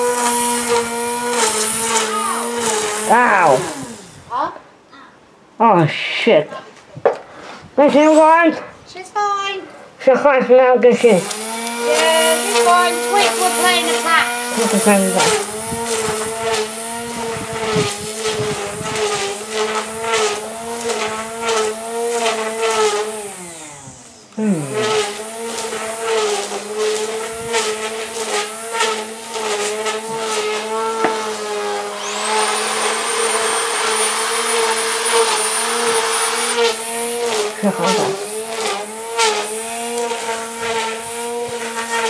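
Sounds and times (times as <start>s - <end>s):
electric grass trimmer cutting: 0.0s - 4.4s, 7.9s - 8.5s, 10.8s - 42.0s.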